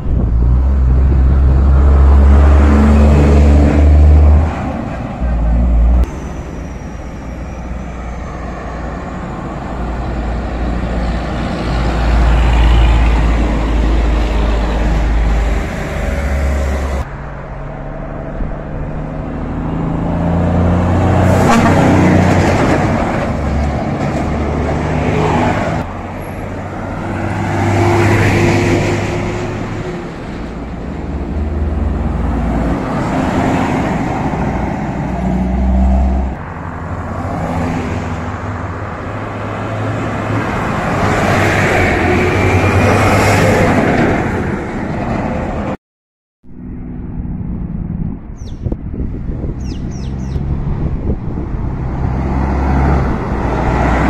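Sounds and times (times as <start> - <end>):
diesel trucks passing by: 0.0 - 45.8, 46.5 - 54.0.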